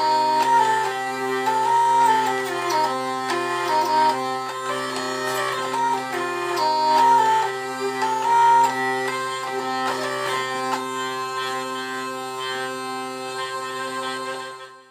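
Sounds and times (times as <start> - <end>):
folk drone instrument melody: 0.0 - 14.9.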